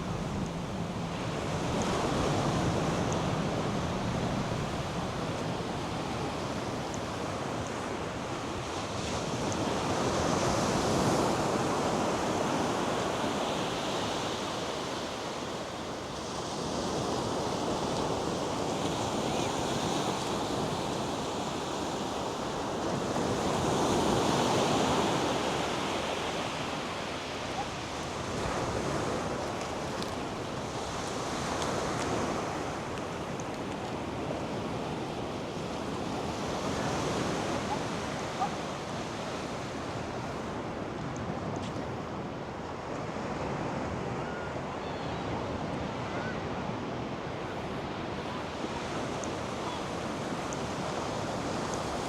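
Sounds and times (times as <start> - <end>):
waves breaking on beach: 0.0 - 52.0.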